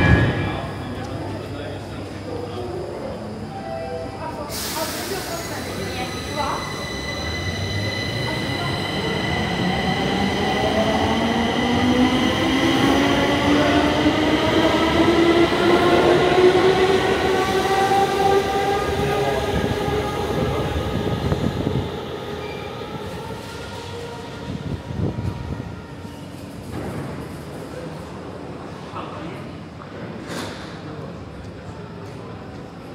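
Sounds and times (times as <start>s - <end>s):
train rumbling on rails: 0.0s - 2.7s, 3.3s - 28.9s.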